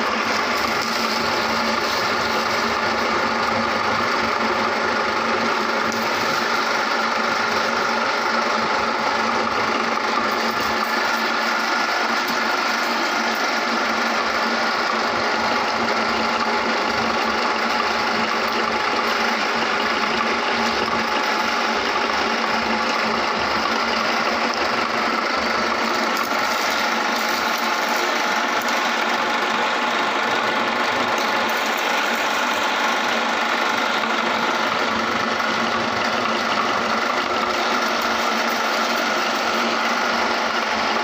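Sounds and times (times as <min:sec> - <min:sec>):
electric grinder motor grinding: 0:00.0 - 0:41.0.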